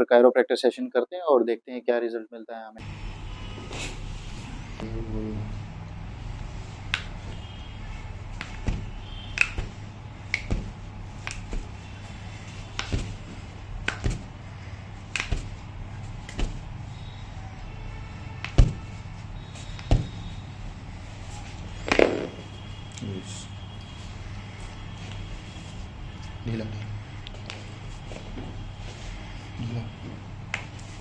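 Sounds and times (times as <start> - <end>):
steady low hum: 2.8 - 31.0.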